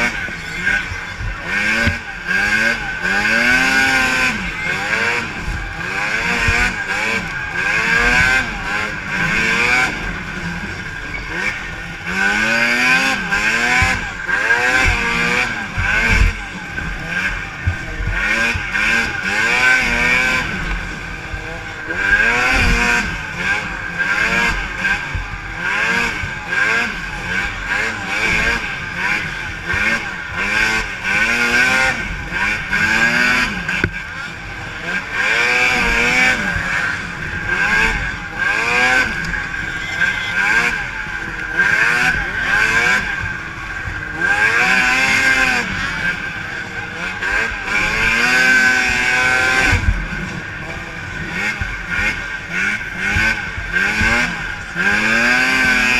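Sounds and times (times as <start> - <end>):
snowmobile engines revving: 0.0 - 55.9.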